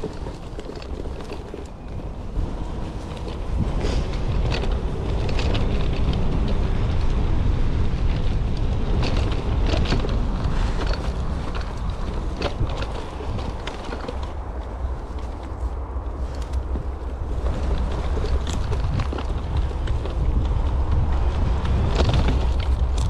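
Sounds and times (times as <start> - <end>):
bike clicks and rattles: 0.0 - 23.0
wind rumbling on microphone: 0.0 - 23.0.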